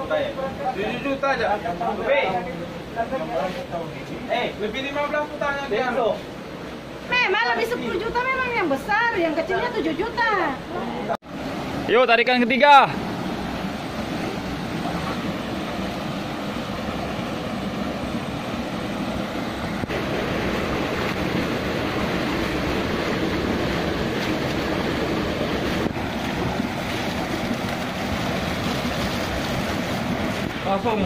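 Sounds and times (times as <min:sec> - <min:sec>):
water rushing through sluice gate: 0:00.0 - 0:31.0.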